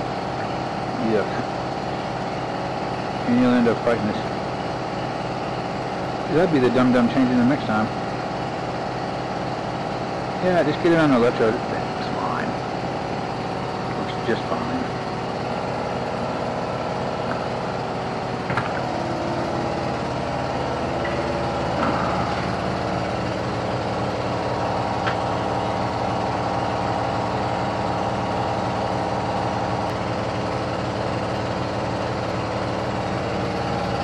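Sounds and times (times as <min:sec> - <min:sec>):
machine humming: 0:00.0 - 0:34.0.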